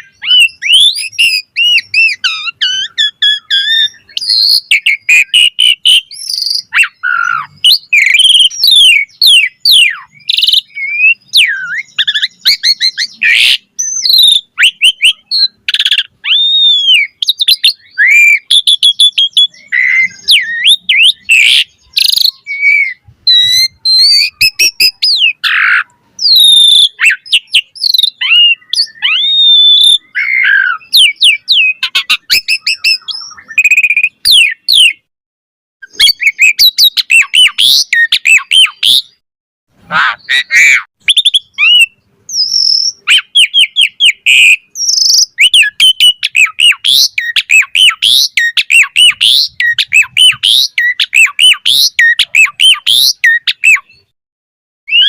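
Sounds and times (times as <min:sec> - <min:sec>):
starling singing: 0:00.0 - 0:35.1, 0:35.8 - 0:39.2, 0:39.8 - 0:54.1.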